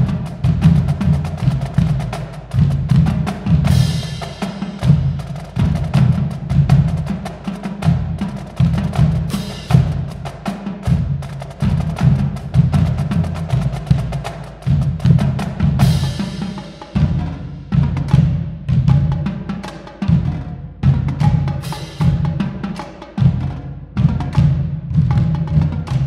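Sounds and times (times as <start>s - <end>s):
marching drumline playing: 0.0s - 26.0s.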